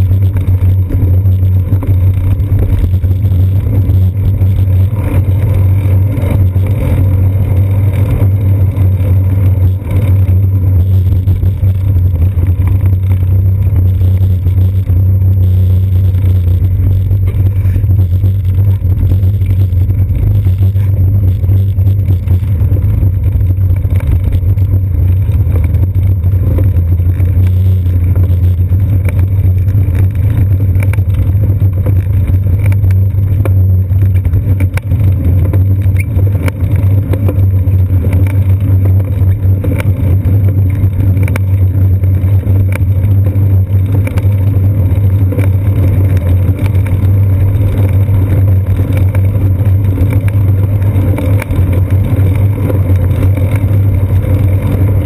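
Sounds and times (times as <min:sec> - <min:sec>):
bicycle riding rumble: 0:00.0 - 0:55.0
wind noise: 0:00.0 - 0:55.0.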